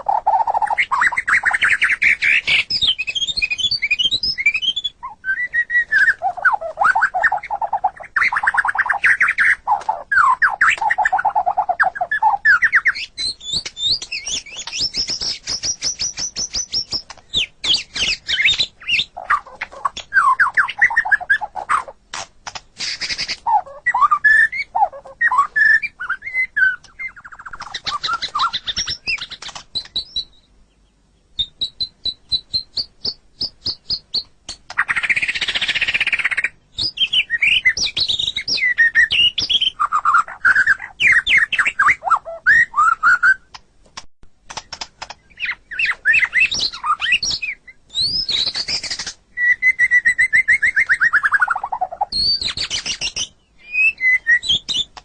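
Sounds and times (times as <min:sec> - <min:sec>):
songbird singing whistled song: 0:00.0 - 0:22.0, 0:22.8 - 0:43.6, 0:44.6 - 0:55.0.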